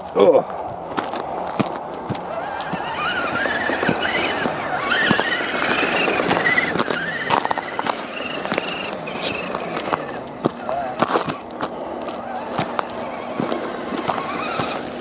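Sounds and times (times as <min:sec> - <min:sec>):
clicks: 0:01.6 - 0:14.9
rc car motor whining: 0:01.8 - 0:15.0
thin high whine: 0:01.9 - 0:15.0.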